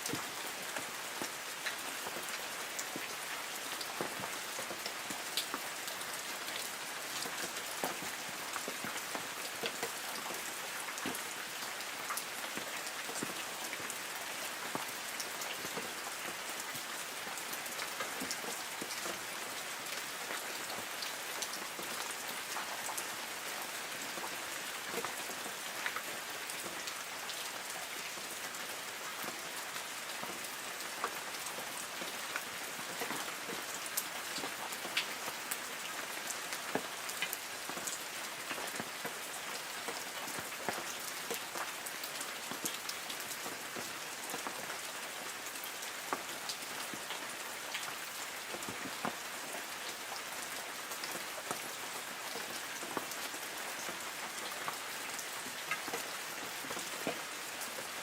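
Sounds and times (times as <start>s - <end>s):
light rain on tree leaves: 0.0s - 58.0s.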